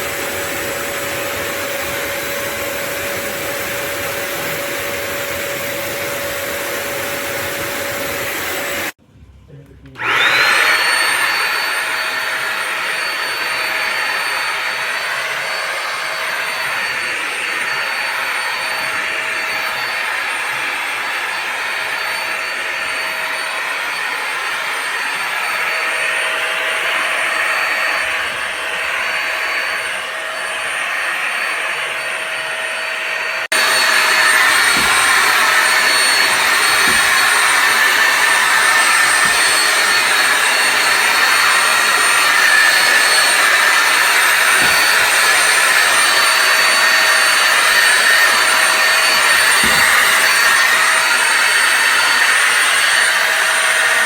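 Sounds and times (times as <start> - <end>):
vacuum motor whine and suction: 0.0 - 9.0, 9.9 - 54.0.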